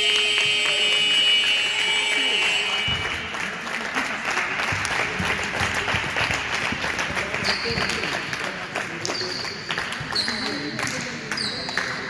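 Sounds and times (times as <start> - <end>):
hands clapping: 0.0 - 12.0.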